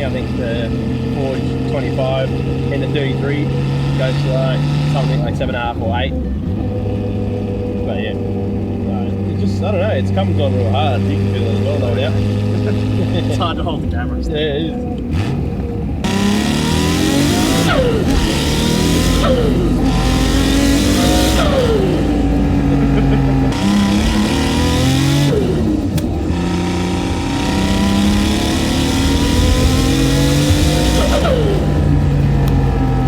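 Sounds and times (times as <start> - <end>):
car engine accelerating through gears: 0.0 - 33.0.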